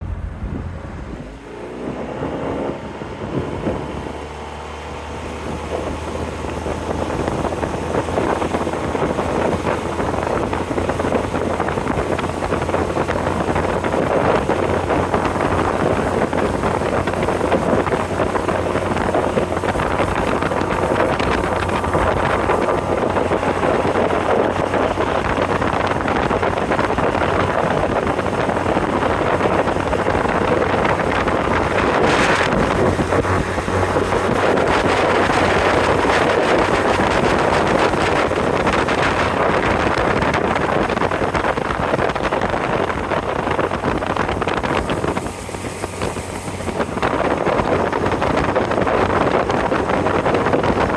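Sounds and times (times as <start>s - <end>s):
outboard motor accelerating: 0.0s - 50.9s
rush of wind and water: 0.0s - 50.9s
wind buffeting microphone: 0.0s - 50.9s.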